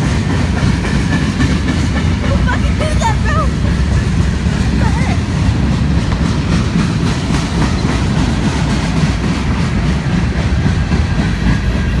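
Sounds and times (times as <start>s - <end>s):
train rumbling past: 0.0s - 12.0s
wheels clacking over rail joints: 0.0s - 12.0s.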